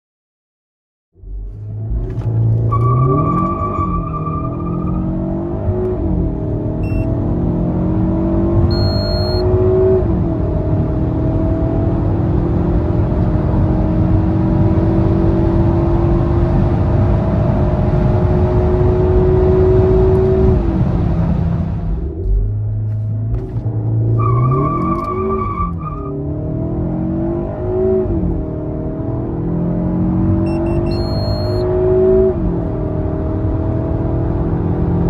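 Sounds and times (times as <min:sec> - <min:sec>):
car engine accelerating hard: 0:01.2 - 0:35.0.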